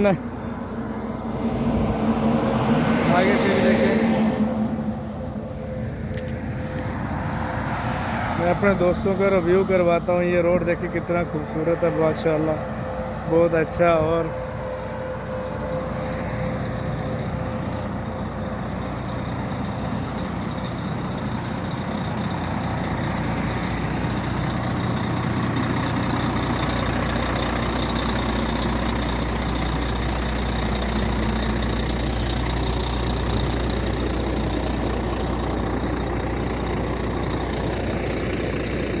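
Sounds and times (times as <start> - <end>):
vehicle engine low rumble: 0.0 - 39.0.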